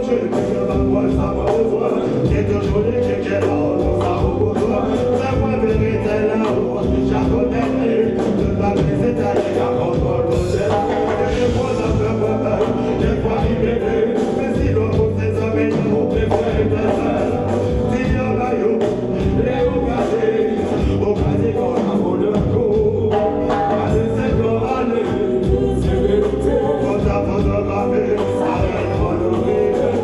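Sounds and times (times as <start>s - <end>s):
live reggae band playing: 0.0s - 30.0s
man singing into microphone: 0.0s - 30.0s.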